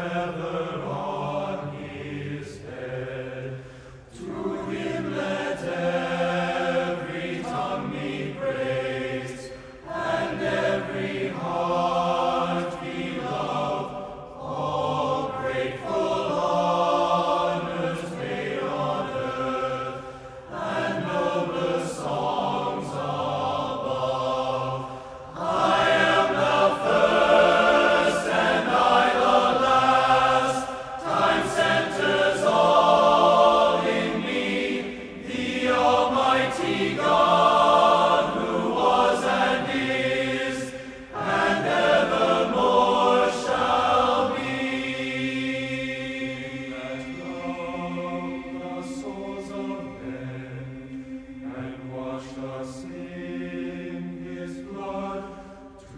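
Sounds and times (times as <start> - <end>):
men's choir singing unaccompanied: 0.0 - 55.9.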